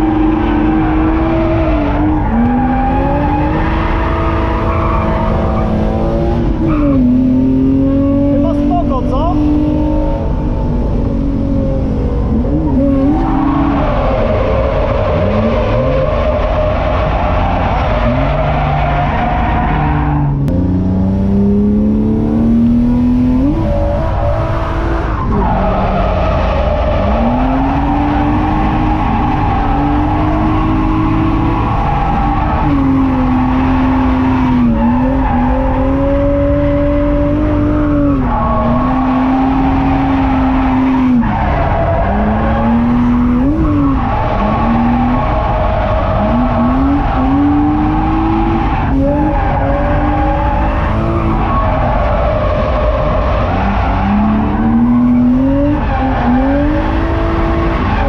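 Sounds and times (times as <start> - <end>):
car engine revving hard: 0.0 - 58.0.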